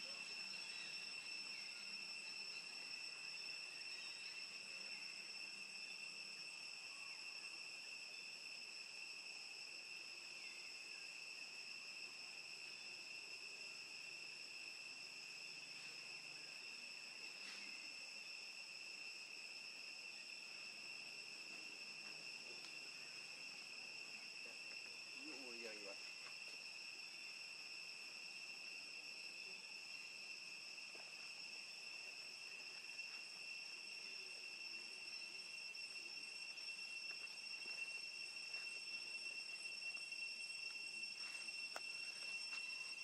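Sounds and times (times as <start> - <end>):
shrill insect chorus: 0.0 - 43.0.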